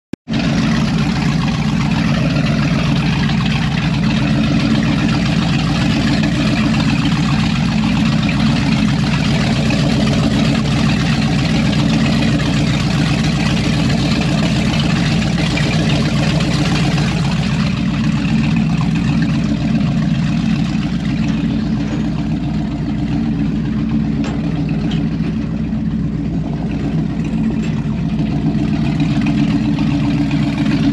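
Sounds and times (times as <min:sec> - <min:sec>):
boat engine idling: 0:00.3 - 0:30.9
exhaust water splashing: 0:00.3 - 0:30.9.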